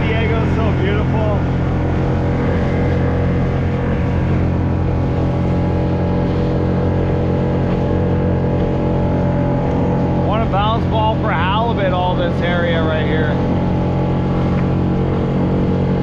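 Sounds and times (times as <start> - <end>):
boat motor running: 0.0 - 16.0
water rushing along hull: 0.0 - 16.0.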